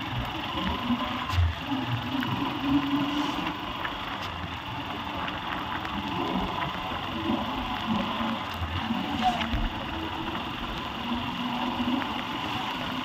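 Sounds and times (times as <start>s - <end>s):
motorbike engine running: 0.0s - 13.0s
wind and road noise: 0.0s - 13.0s.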